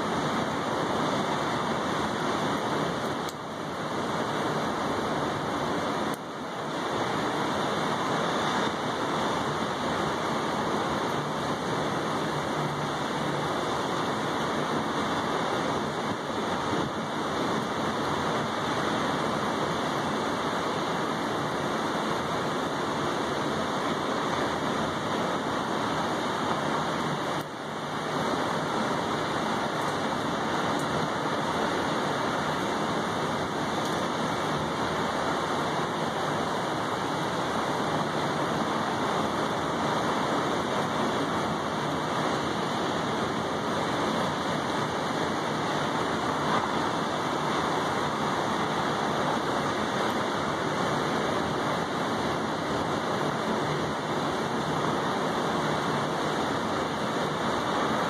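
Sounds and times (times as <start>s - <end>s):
rain falling on a table: 0.0s - 58.0s.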